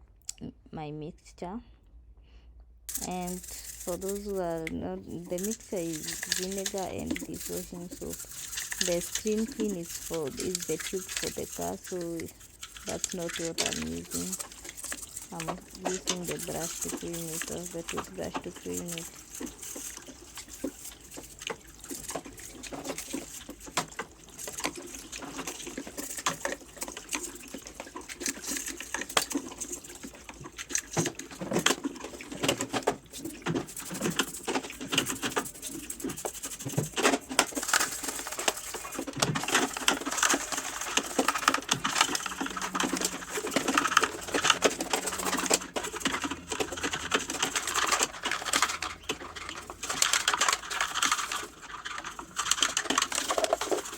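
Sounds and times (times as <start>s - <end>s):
toothbrush scrubbing: 2.9s - 53.9s.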